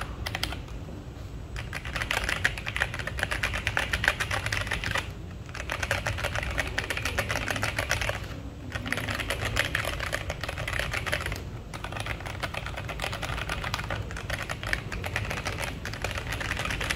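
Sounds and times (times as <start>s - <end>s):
mechanical keyboard typing: 0.0s - 0.8s, 1.6s - 16.9s.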